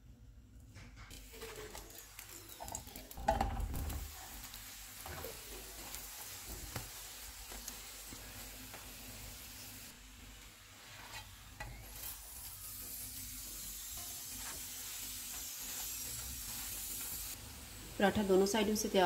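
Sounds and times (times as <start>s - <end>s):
ghee sizzling on a hot pan: 1.1s - 19.0s.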